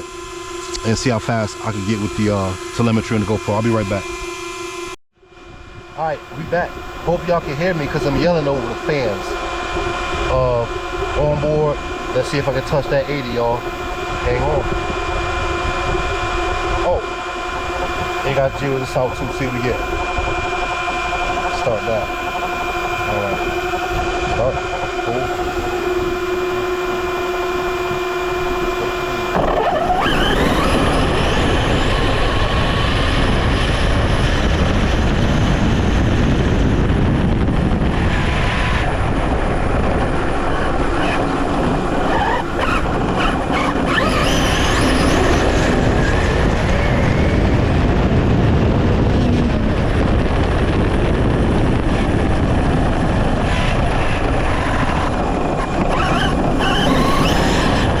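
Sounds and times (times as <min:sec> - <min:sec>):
wind rush and rumble: 0:05.3 - 0:58.0.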